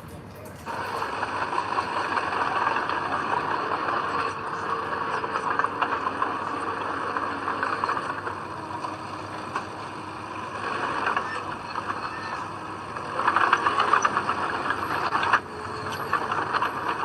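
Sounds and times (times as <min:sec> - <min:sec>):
diesel earthmoving machinery running: 0:00.0 - 0:17.0.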